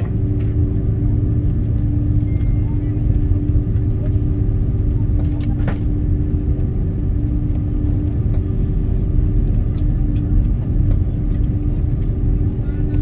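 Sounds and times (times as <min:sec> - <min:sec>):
deep cabin rumble: 0:00.0 - 0:13.0
jet engine hum: 0:00.0 - 0:13.0.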